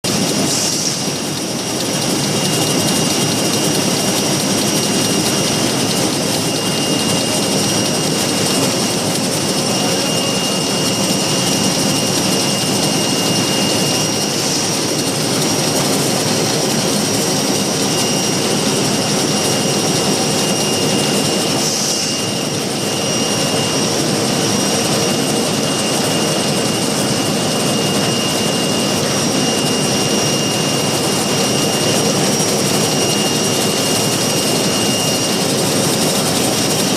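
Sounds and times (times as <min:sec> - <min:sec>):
high machine whine: 0:00.0 - 0:36.9
folding machine running: 0:00.1 - 0:36.9.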